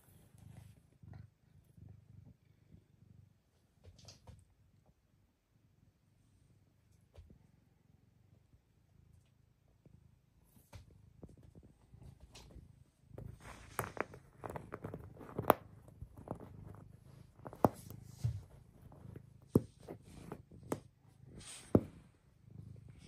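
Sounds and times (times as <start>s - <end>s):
faint low rumble: 0.0s - 23.0s.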